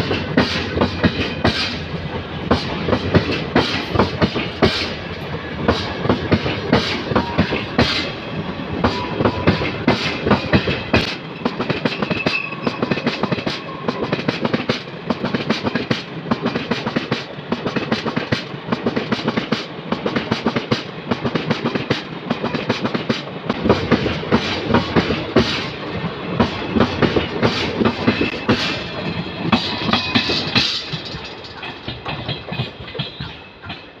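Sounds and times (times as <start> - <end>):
train wheels clattering over rail joints: 0.0 - 34.0.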